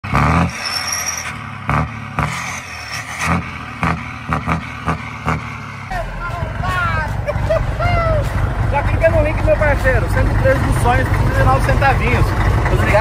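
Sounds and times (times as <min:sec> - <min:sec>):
diesel truck engine idling and revving: 0:00.0 - 0:13.0.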